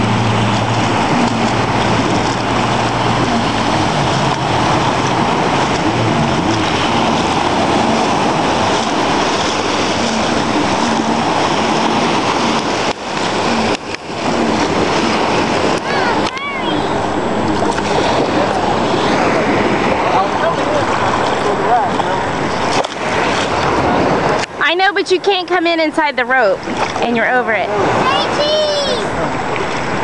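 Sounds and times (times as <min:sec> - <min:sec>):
wind noise: 0:00.0 - 0:25.4
faint jet ski engine drone: 0:00.0 - 0:30.0
rushing water: 0:00.0 - 0:30.0.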